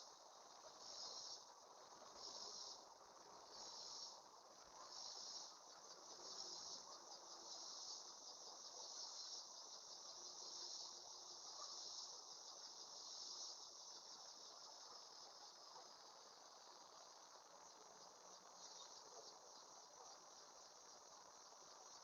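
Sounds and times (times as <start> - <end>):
faint insect chorus trilling: 0.0 - 22.0.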